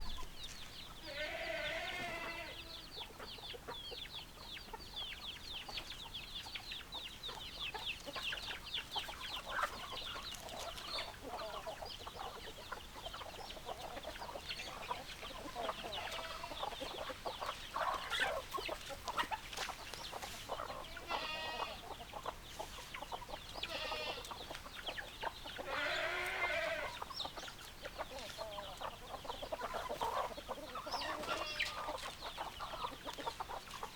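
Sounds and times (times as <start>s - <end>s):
chickens clucking and calling: 0.0s - 33.9s
long drawn-out chicken calls: 0.0s - 33.9s.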